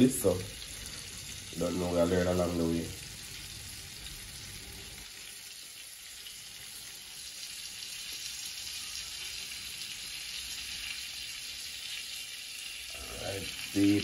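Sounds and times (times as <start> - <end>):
crayfish frying in hot oil: 0.0 - 14.0.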